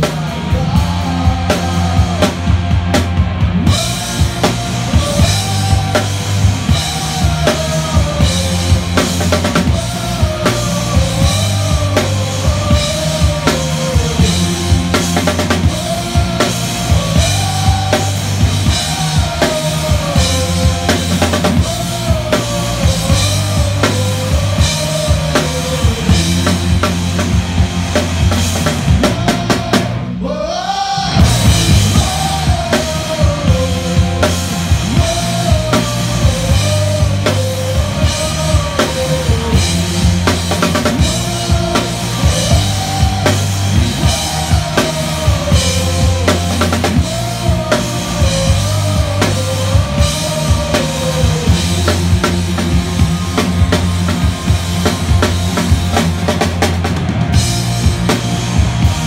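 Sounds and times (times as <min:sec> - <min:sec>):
bass line: 0:00.0 - 0:59.0
live band playing: 0:00.0 - 0:59.0
rock drum kit: 0:00.0 - 0:59.0.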